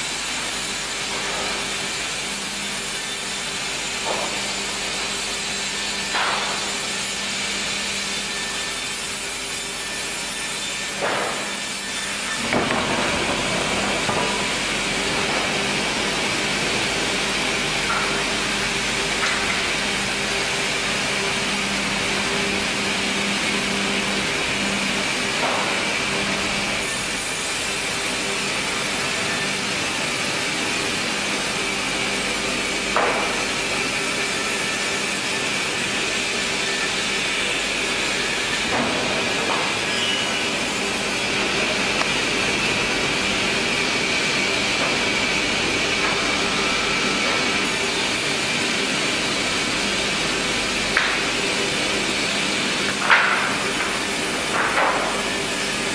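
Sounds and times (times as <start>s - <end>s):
sawmill machinery hiss and hum: 0.0s - 55.9s.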